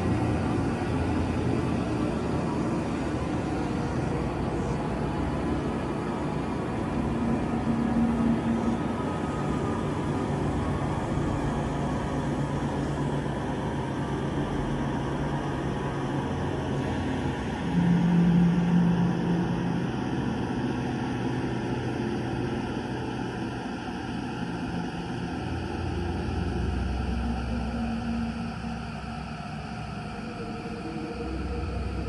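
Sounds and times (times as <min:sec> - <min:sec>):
dense rumbling drone: 0:00.0 - 0:32.0
low hums: 0:00.0 - 0:32.0.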